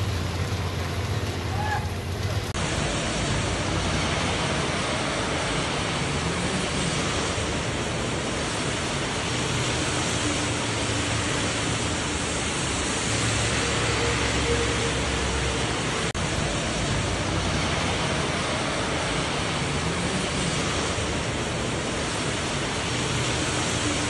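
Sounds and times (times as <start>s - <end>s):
rain on a paved street: 0.0s - 24.0s.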